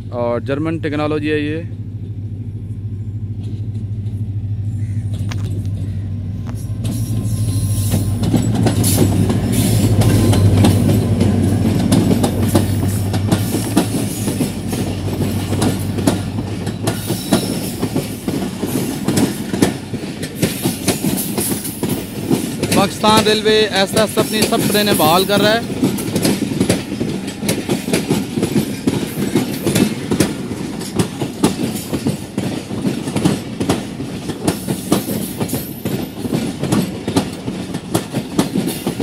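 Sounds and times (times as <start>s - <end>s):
diesel locomotive engine drone: 0.0s - 39.0s
train wheels clacking over rail joints: 5.1s - 39.0s.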